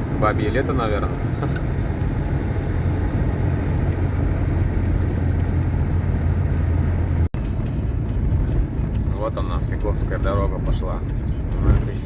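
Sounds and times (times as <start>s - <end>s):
van engine and road drone: 0.0s - 12.0s.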